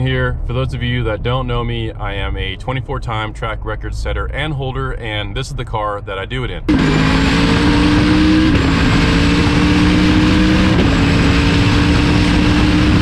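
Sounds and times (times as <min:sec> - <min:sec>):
race car engine under load: 0:00.0 - 0:13.0.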